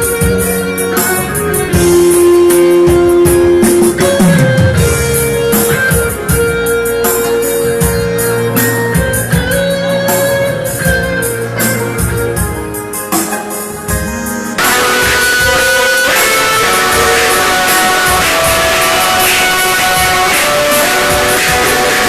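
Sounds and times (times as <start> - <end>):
bass line: 0.0 - 13.0, 13.8 - 22.0
drum accompaniment: 0.0 - 22.0
keyboard lead notes: 0.0 - 22.0.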